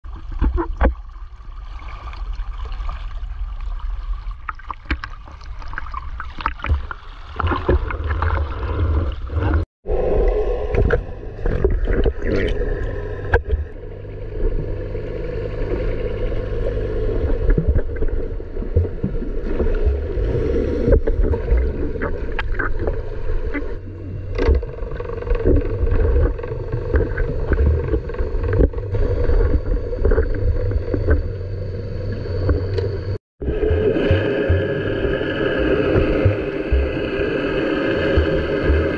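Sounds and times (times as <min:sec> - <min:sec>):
muffled sea water sloshing: 0:00.0 - 0:38.9.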